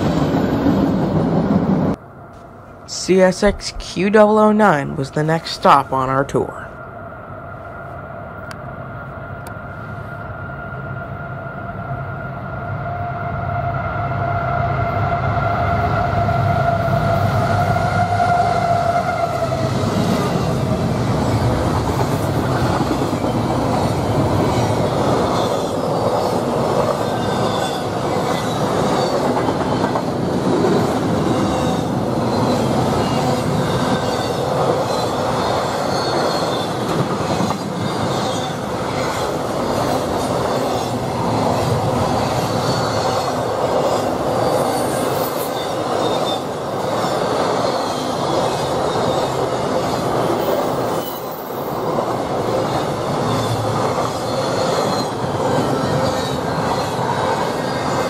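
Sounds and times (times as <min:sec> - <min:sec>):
train wheels rushing on rail: 0:00.0 - 0:02.8, 0:06.5 - 0:58.0.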